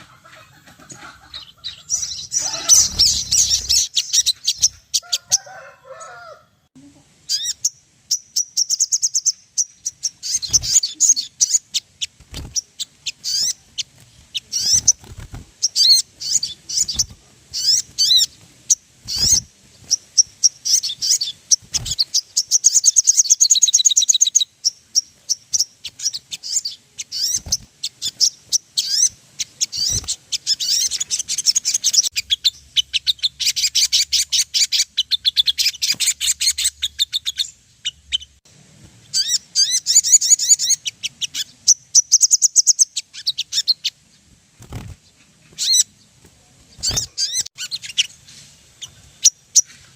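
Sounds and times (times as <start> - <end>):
songbird chirps and trills: 0.0 - 49.9.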